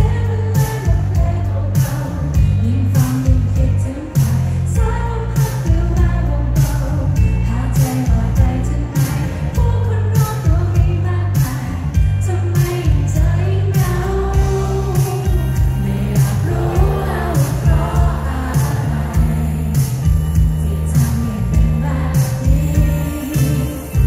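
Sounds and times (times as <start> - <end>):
live band playing pop song: 0.0 - 24.0
woman singing lead: 0.0 - 24.0.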